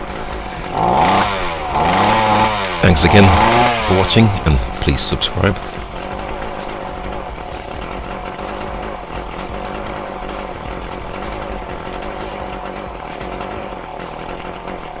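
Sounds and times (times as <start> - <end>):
strimmer engine running: 0.0 - 12.8.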